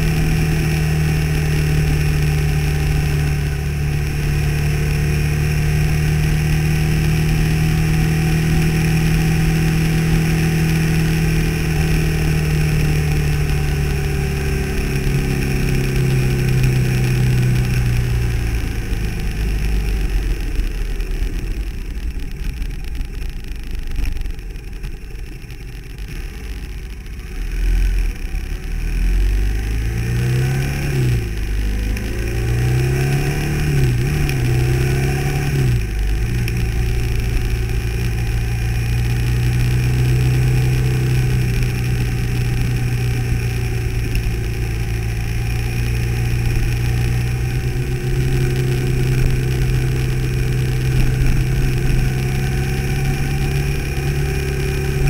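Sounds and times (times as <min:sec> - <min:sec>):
car engine from inside cabin: 0:00.0 - 0:55.0
road noise: 0:00.0 - 0:55.0.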